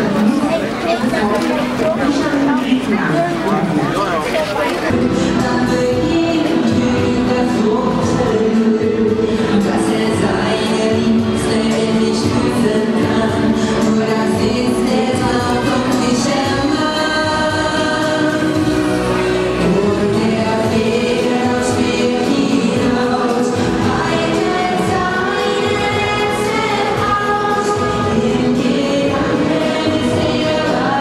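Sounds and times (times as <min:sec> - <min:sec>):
choir singing held chords: 0:04.9 - 0:31.0.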